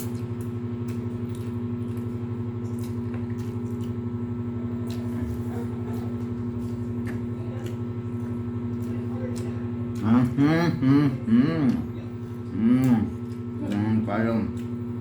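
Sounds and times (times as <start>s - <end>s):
electrical hum: 0.0s - 15.0s
wet chewing and lip-smacking: 0.0s - 15.0s.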